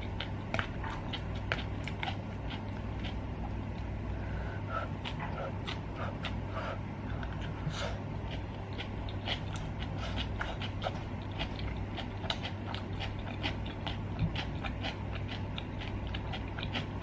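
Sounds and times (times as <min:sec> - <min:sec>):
close chewing with mouth clicks: 0:00.0 - 0:17.0
steady low hum: 0:00.0 - 0:17.0.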